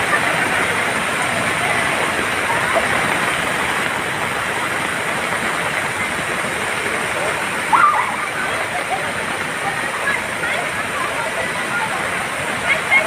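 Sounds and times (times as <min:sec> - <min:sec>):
rushing floodwater: 0:00.0 - 0:13.0.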